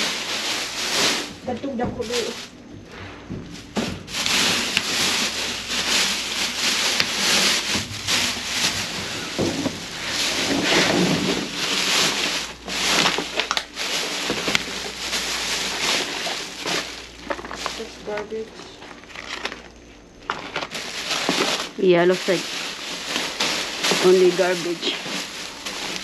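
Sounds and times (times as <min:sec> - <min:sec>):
plastic bags rustling: 0:00.0 - 0:26.0.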